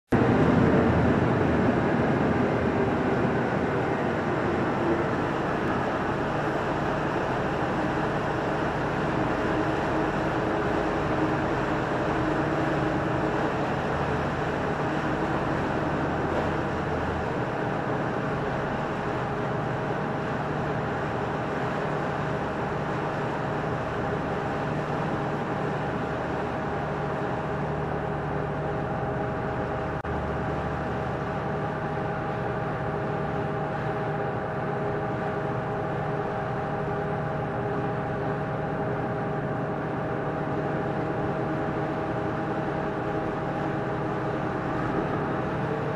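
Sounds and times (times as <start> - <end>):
boat engines droning: 0.1 - 45.9
rushing water and wind: 0.2 - 45.9.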